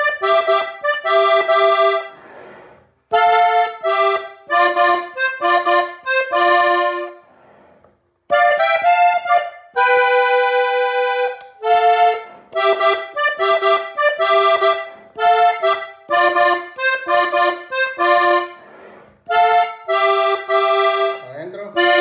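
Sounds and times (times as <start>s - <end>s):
button accordion playing: 0.0s - 7.6s, 8.2s - 22.0s.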